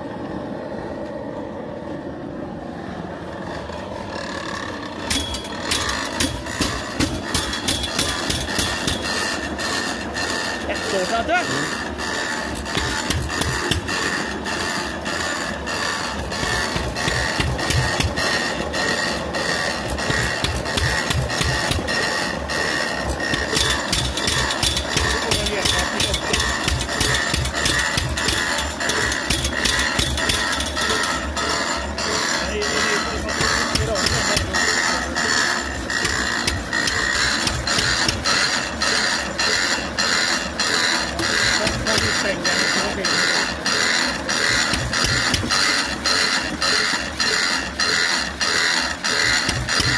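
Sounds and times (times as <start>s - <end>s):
stationary engine running: 0.0s - 49.9s
torch flame hissing: 2.4s - 46.9s.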